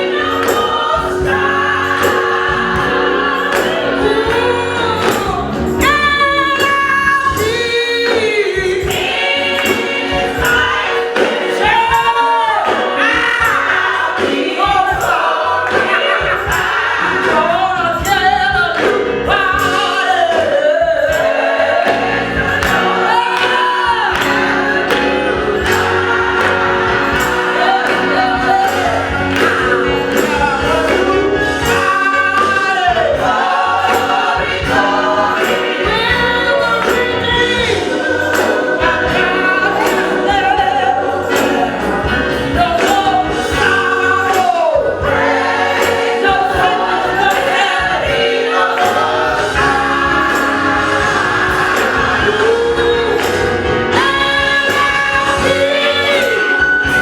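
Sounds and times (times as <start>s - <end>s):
gospel choir singing: 0.0s - 57.0s
instrumental accompaniment with beat: 0.0s - 57.0s.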